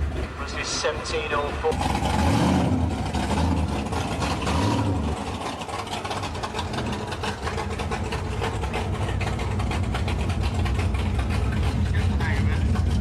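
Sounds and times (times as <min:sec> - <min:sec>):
race car engines idling: 0:00.0 - 0:13.0.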